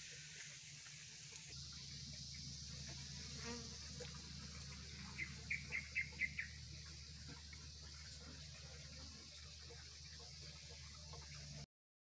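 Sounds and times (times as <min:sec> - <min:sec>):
bees buzzing faintly: 0:00.2 - 0:11.6.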